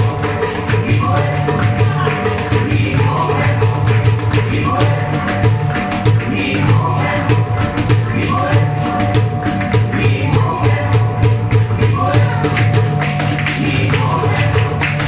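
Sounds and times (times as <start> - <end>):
cajon hand-drum hits: 0.0 - 15.0
synthesizer with pulsing bass: 0.0 - 15.0.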